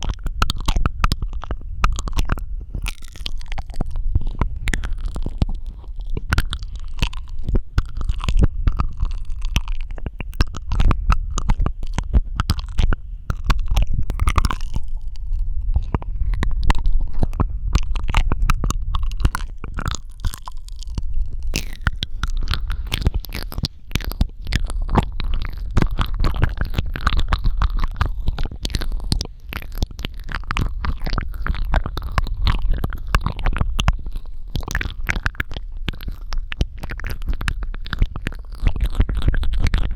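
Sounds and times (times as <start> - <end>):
steady low rumble: 0.0 - 39.9
wet mouth clicks and smacks: 0.0 - 39.9.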